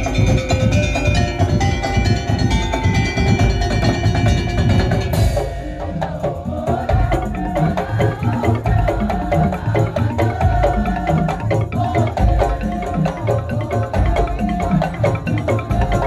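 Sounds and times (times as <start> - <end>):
percussion ensemble playing: 0.0 - 16.0.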